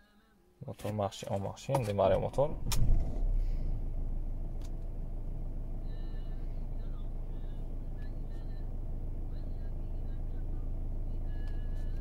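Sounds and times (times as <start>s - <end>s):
diesel engine idling: 2.1s - 12.0s.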